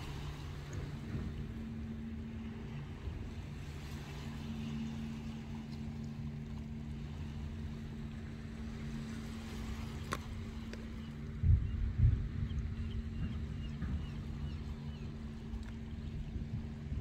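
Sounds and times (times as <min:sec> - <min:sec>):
distant boat engine drone: 0:00.0 - 0:17.0.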